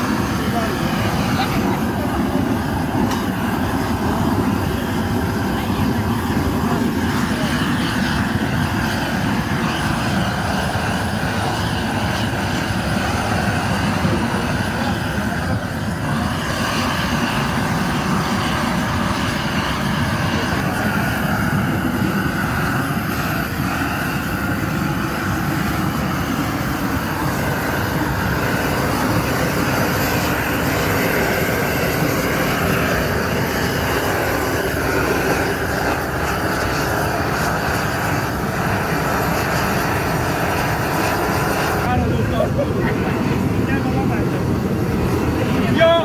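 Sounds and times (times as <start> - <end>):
gas torch flame rushing: 0.0 - 46.0.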